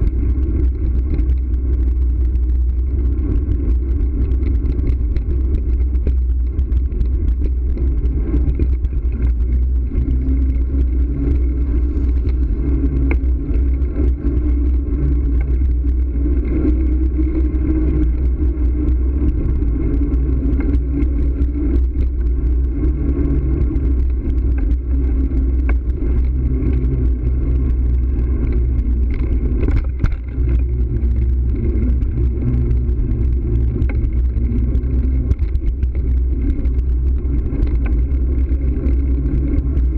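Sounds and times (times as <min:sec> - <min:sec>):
faint clicks: 0:00.0 - 0:39.9
wind and road rumble: 0:00.0 - 0:39.9.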